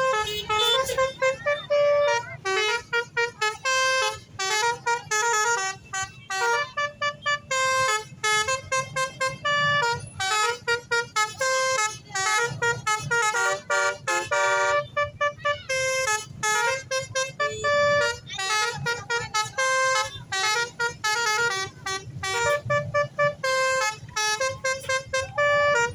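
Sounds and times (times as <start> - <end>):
multi-tone bus horn tune: 0.0 - 25.9.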